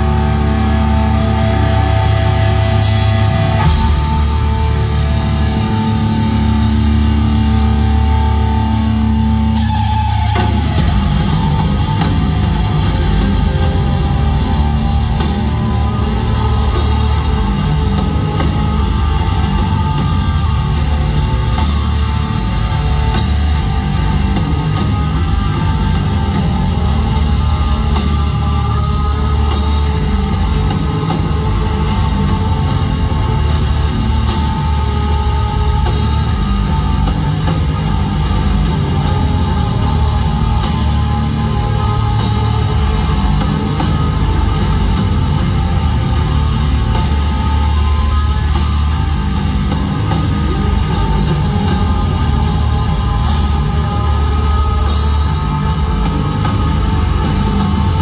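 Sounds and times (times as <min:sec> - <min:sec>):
live heavy rock band playing: 0:00.0 - 0:58.0.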